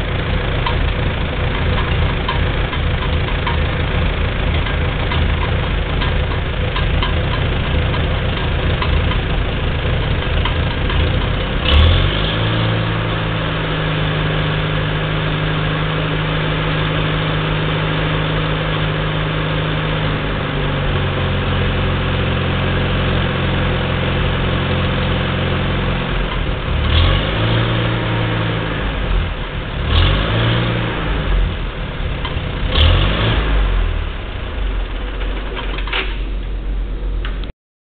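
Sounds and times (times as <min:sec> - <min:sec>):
tractor engine revving: 0:00.0 - 0:36.2.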